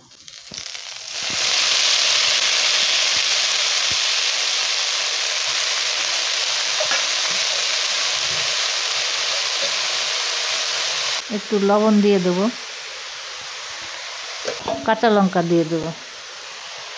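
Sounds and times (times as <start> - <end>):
greens sizzling in hot oil: 0.0 - 16.9.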